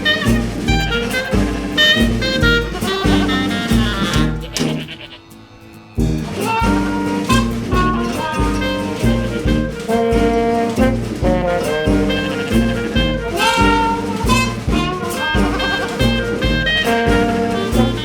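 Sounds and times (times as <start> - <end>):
upbeat jazzy music with brass: 0.0 - 5.1, 6.0 - 18.0.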